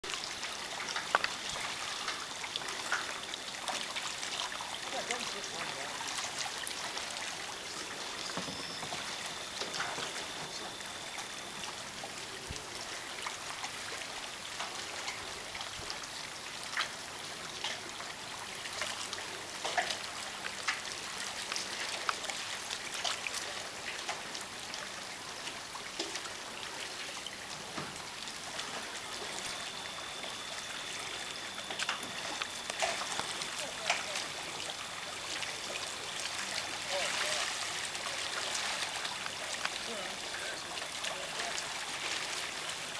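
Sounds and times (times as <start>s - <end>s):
light water splashes: 0.0s - 42.9s
water trickling and dripping: 0.0s - 42.9s.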